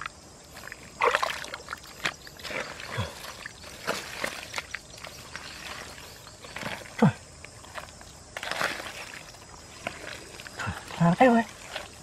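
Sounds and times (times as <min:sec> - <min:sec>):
hands squelching in wet mud: 0:00.0 - 0:12.0.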